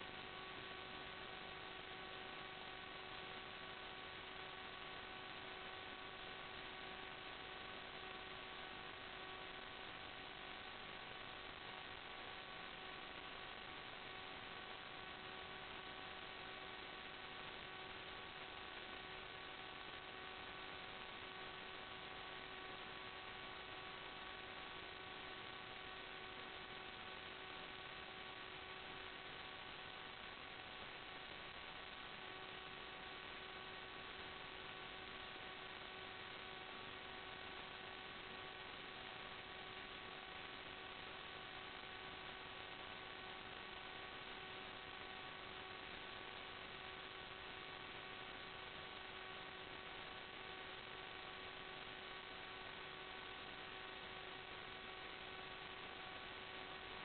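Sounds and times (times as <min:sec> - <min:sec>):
constant even-toned hum: 0:00.0 - 0:57.0
faint electrical hiss: 0:00.0 - 0:57.0.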